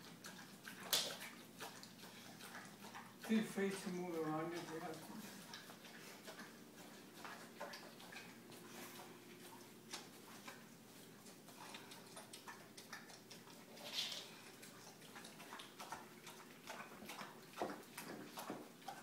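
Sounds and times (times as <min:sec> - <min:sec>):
dog eating wet smacking: 0:00.0 - 0:19.0.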